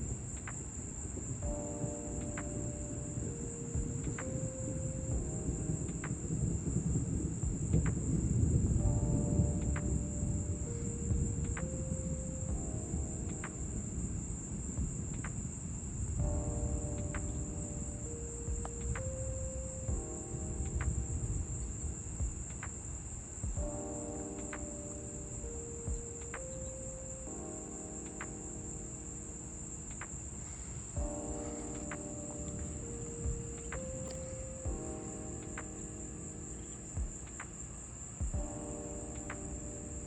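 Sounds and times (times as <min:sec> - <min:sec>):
crickets chirring: 0:00.0 - 0:40.0
soft background music chords: 0:00.0 - 0:40.0.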